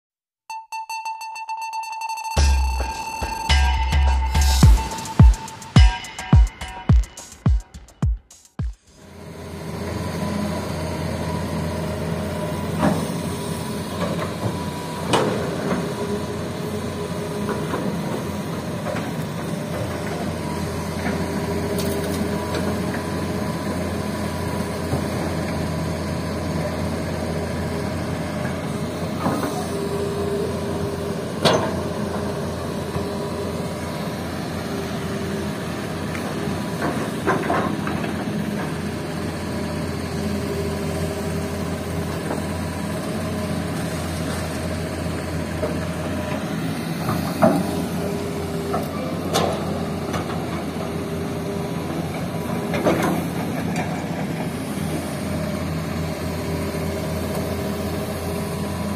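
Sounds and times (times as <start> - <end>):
excavator engine and hydraulics: 2.3 - 8.0, 8.8 - 58.9.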